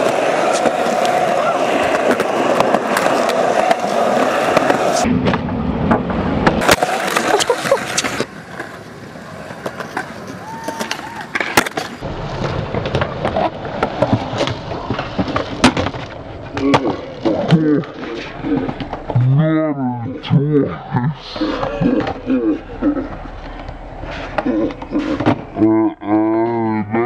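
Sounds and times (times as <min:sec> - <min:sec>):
skateboards clacking on ground: 0:00.0 - 0:19.4, 0:22.9 - 0:25.6
skateboard wheels rolling on concrete: 0:00.0 - 0:20.4, 0:21.0 - 0:25.7.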